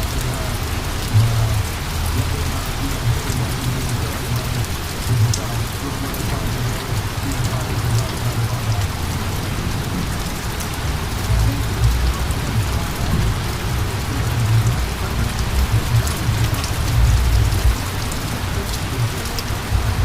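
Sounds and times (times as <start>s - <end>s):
heavy rain falling: 0.0s - 20.0s
low uneven rumble: 0.0s - 20.0s
raindrops ticking nearby: 0.0s - 20.0s.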